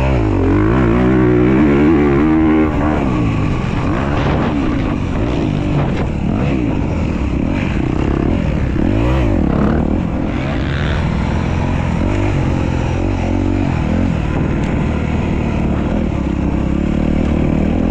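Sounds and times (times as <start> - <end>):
dirt bike engine revving: 0.0 - 17.9.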